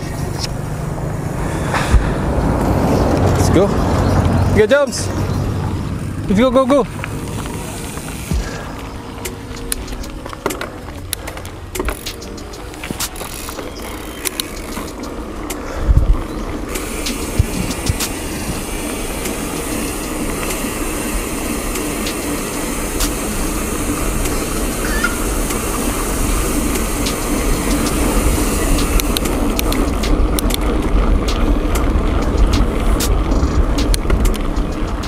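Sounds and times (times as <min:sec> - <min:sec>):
wind rushing over microphone: 0:00.0 - 0:10.2, 0:14.3 - 0:35.0
bike clicks and rattles: 0:00.0 - 0:35.0
tyres rumbling on road: 0:00.0 - 0:35.0.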